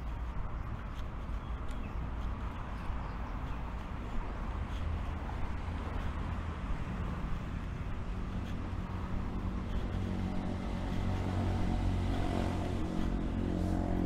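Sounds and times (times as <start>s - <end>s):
city traffic rumble: 0.0s - 14.0s
faint engine hum: 0.0s - 14.0s.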